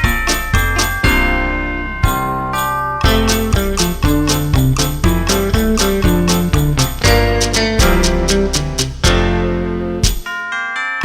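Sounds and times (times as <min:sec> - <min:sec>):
held chord with bass: 0:00.0 - 0:10.2
high bell-like keyboard notes: 0:00.0 - 0:11.0.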